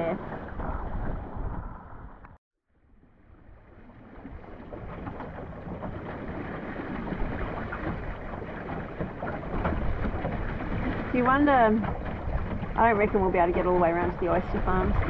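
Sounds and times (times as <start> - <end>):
water splashing against hull: 0.0 - 2.4, 3.1 - 15.0
wind rumble: 0.0 - 15.0.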